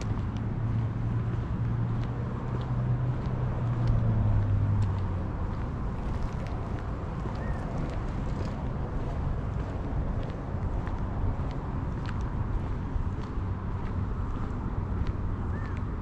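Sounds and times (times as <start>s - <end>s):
vehicle engine passing: 0.0s - 15.8s
outdoor background noise: 0.0s - 16.0s.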